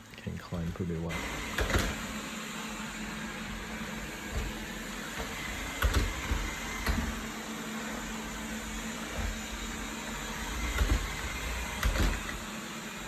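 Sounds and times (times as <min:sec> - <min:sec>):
robot vacuum whirring: 0:00.6 - 0:13.0.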